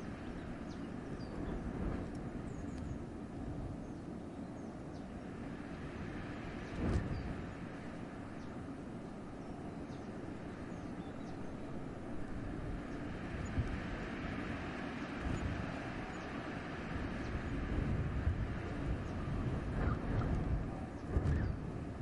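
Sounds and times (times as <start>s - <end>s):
wind rushing through forest: 0.0s - 22.0s.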